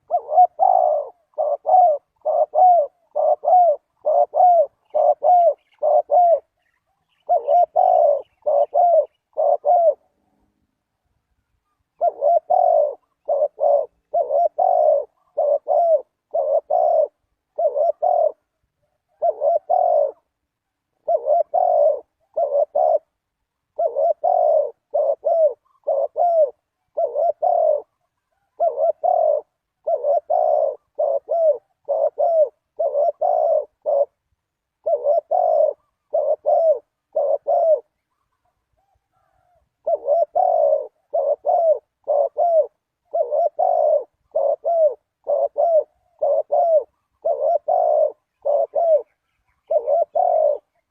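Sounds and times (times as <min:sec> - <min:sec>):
dove cooing: 0:00.0 - 0:10.2, 0:11.5 - 0:50.9.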